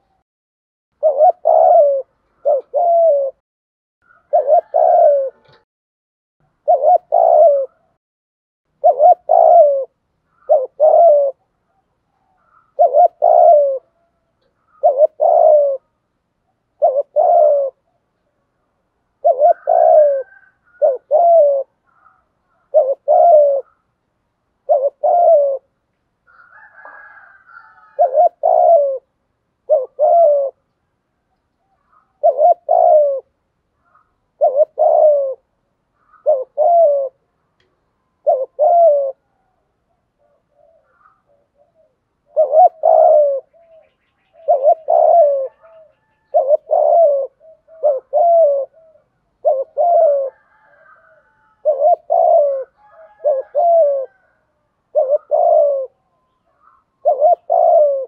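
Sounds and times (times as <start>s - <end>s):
dove cooing: 1.0s - 3.4s, 4.0s - 5.7s, 6.5s - 8.0s, 8.7s - 18.1s, 19.1s - 23.9s, 24.6s - 30.8s, 31.6s - 58.0s.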